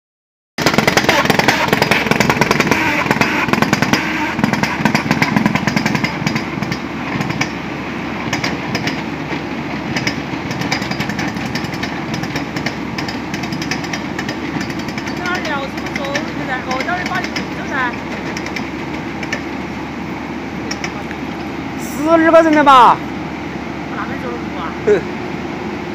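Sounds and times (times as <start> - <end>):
machine engine running: 0.6 - 25.9.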